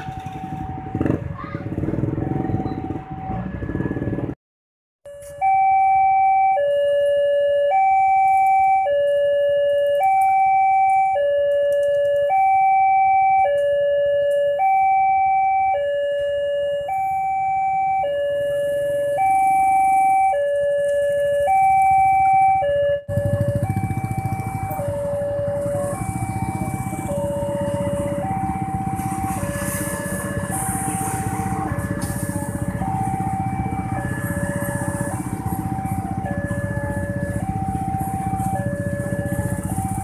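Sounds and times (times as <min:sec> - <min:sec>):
motorcycle engines: 0:00.0 - 0:04.4, 0:07.7 - 0:40.0
two-tone crossing warning alarm: 0:00.0 - 0:04.4, 0:05.0 - 0:40.0.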